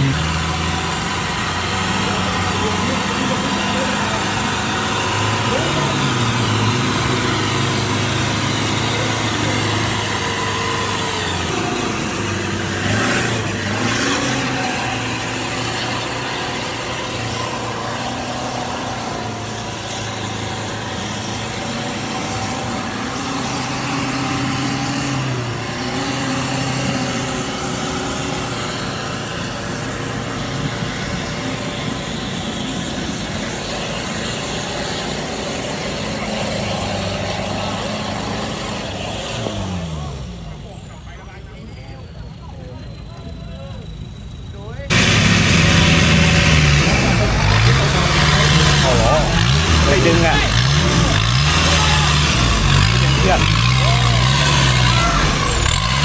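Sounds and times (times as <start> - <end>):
engine revving: 0.0 - 41.5, 44.8 - 56.0.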